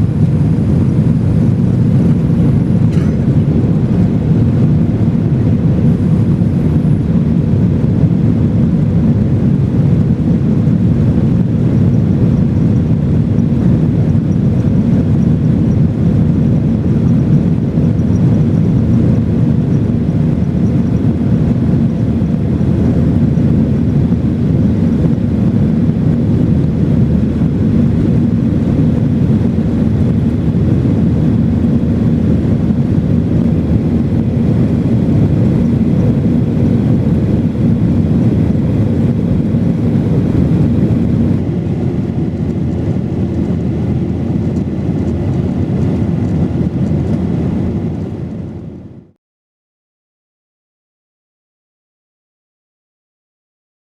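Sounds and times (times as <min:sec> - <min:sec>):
airplane cabin engine rumble: 0:00.0 - 0:49.2.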